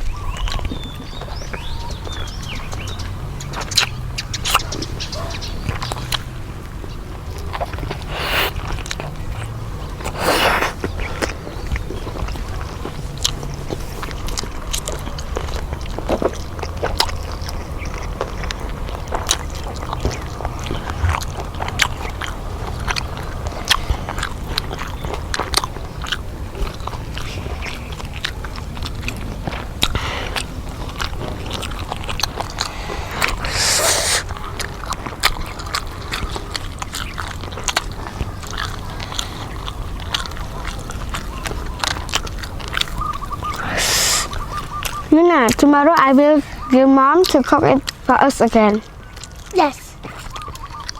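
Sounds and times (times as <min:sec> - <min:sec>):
crunching fried chicken: 0:00.0 - 0:50.9.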